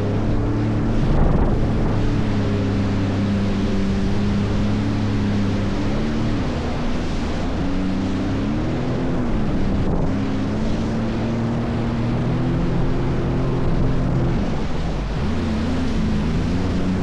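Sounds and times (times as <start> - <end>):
jet ski engine: 0.0 - 17.0
wind and water spray: 0.0 - 17.0.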